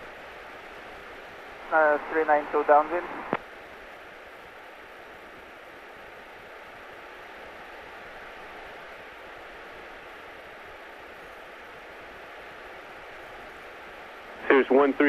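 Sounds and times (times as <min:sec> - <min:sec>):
airplane engine and airflow hiss: 0:00.0 - 0:15.0
faint steady tone: 0:00.0 - 0:15.0.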